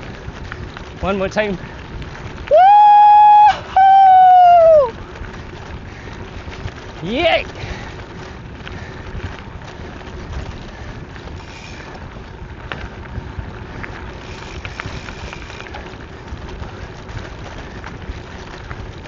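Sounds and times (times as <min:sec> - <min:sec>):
bike clicks and rattles: 0:00.0 - 0:19.0
bike tyres on gravel: 0:00.0 - 0:19.0.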